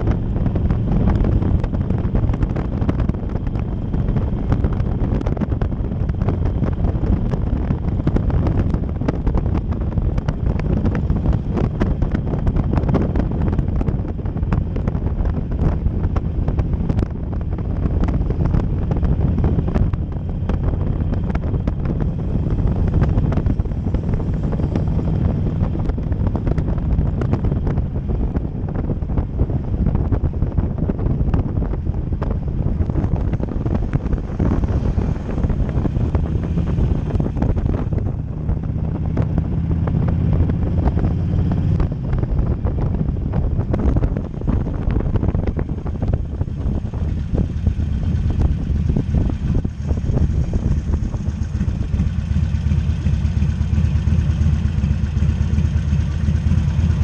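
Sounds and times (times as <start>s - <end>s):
motorcycle engine drone: 0.0s - 57.0s
wind buffeting microphone: 0.0s - 57.0s.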